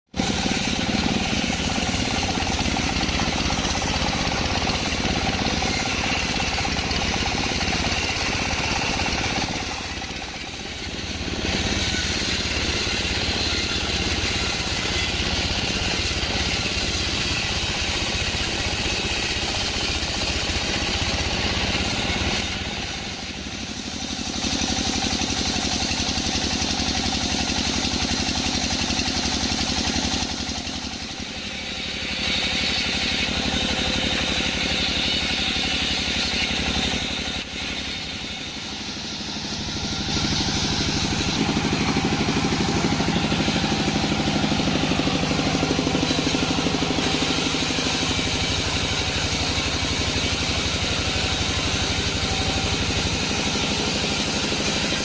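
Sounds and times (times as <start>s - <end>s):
band saw cutting log: 0.1s - 55.0s.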